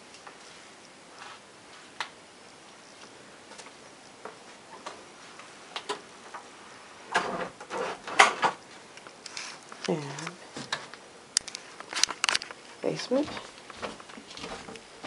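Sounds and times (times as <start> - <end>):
rustle: 0.0 - 15.0.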